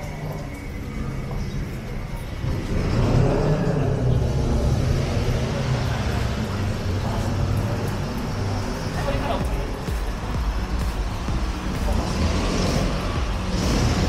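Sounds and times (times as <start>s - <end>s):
vehicle engine rumble passing: 2.4s - 14.0s.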